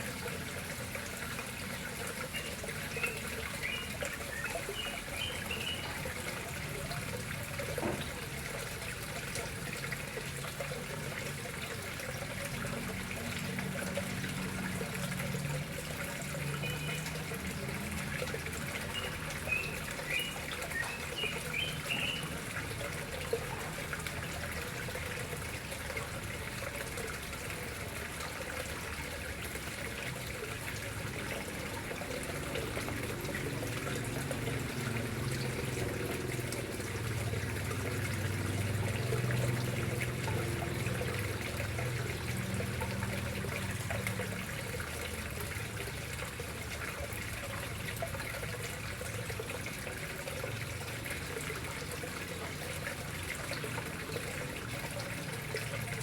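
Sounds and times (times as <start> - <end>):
water trickling into a pond: 0.0 - 56.0.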